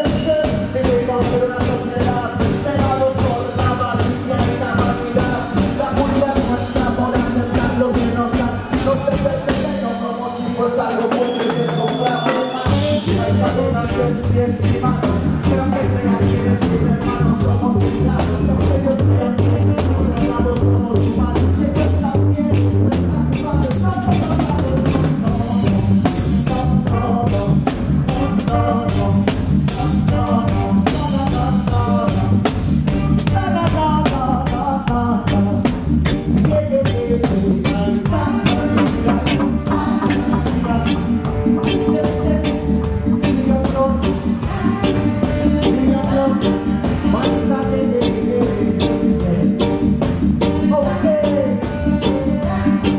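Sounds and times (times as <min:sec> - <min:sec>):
heavy bass line: 0:00.0 - 0:11.1, 0:12.7 - 0:52.9
drum kit with rimshots: 0:00.0 - 0:52.9
man singing into microphone: 0:00.0 - 0:52.9.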